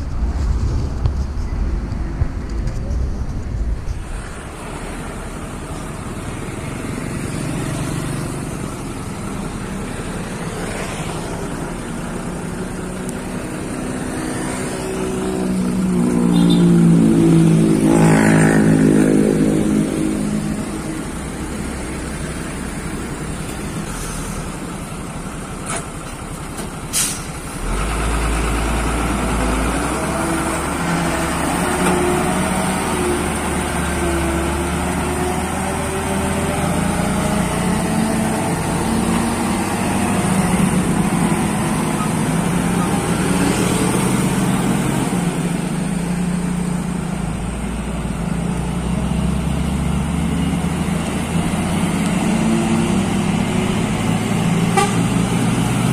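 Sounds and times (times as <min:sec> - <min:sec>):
diesel truck engine: 0:00.0 - 0:55.9.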